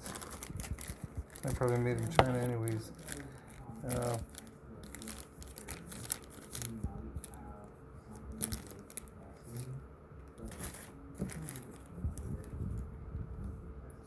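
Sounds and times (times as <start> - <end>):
packaging rustling and crinkling: 0.0 - 12.8.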